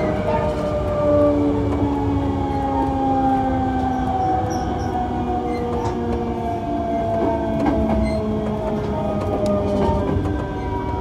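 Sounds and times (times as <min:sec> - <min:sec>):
train inverter whine: 0:00.0 - 0:11.0
train running rumble: 0:00.0 - 0:11.0.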